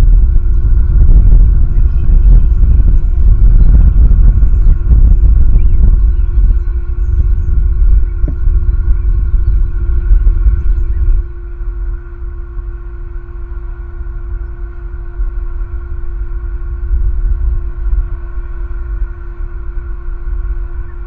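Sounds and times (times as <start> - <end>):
faint steady hum: 0.0 - 21.0
wind buffeting microphone: 0.0 - 21.0.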